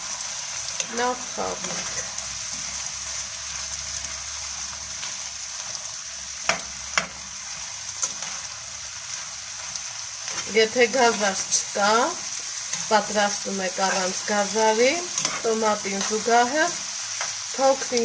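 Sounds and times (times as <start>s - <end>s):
meat sizzling in a frying pan: 0.0s - 18.0s.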